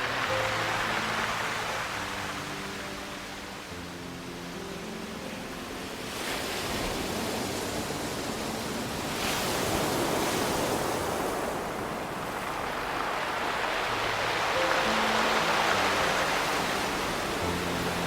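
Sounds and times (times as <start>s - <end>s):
waves breaking on pebble beach: 0.0s - 3.4s, 6.0s - 18.0s.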